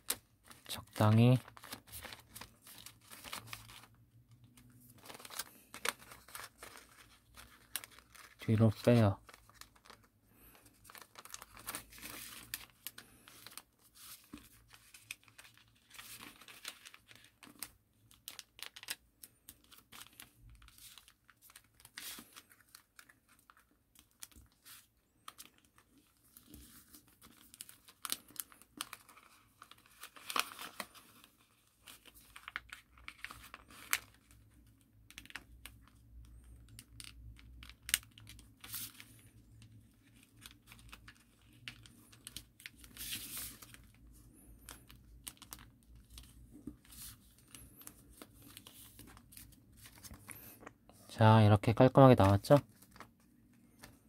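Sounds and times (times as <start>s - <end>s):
paper rustling and crackling: 0.0s - 54.0s.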